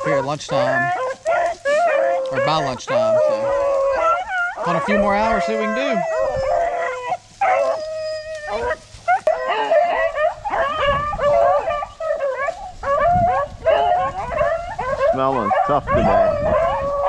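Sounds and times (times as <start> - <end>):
hounds baying and barking: 0.0 - 17.0.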